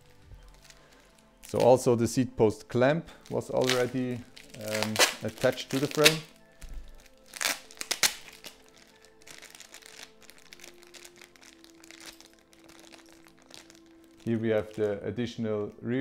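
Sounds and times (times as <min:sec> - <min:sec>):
plastic packaging crinkling: 0:00.0 - 0:02.0, 0:03.1 - 0:15.4
soft background music: 0:00.0 - 0:16.0.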